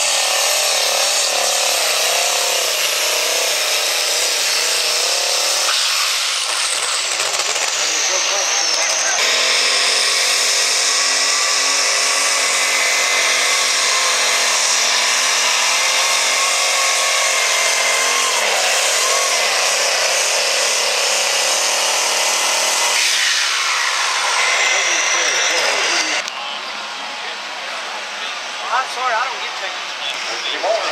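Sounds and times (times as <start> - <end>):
diesel tractor engine revving: 0.0 - 26.6.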